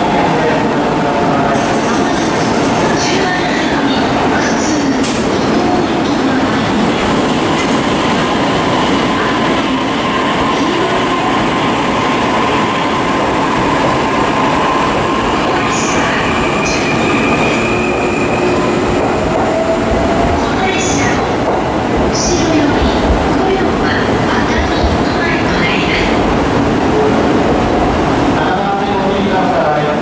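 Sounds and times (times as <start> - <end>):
train wheels rumbling on rail: 1.6 - 30.0.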